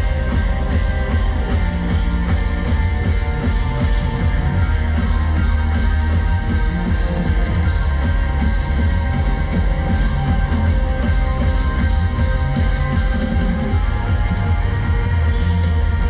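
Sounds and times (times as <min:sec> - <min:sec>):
drums: 0:00.0 - 0:16.0
electric guitars: 0:00.0 - 0:16.0
heavy bass: 0:00.0 - 0:16.0.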